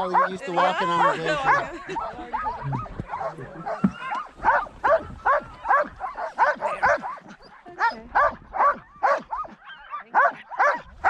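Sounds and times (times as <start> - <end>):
sled dogs barking and yipping: 0.0 - 11.0.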